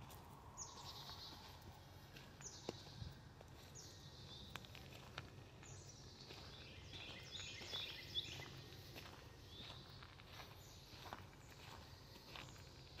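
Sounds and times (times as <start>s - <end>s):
faint birdsong: 0.0s - 13.0s
footsteps on dirt trail: 0.0s - 13.0s
low steady background hum: 0.0s - 13.0s.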